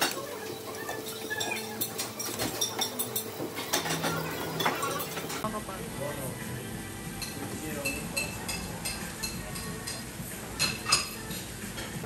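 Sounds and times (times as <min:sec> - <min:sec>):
dishes and cutlery clinking: 0:00.0 - 0:05.4, 0:07.2 - 0:12.0.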